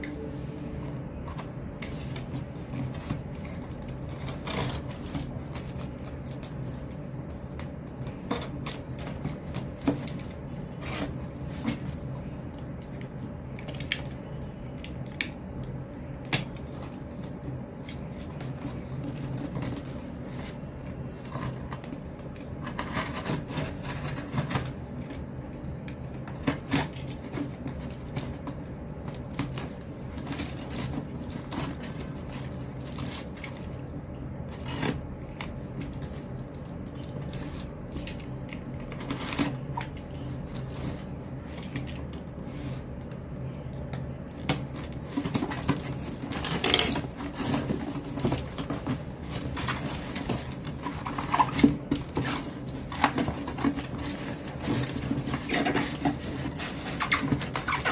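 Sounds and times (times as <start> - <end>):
cardboard rustling: 0.0 - 13.6, 15.4 - 57.9
steady low hum: 0.0 - 57.9.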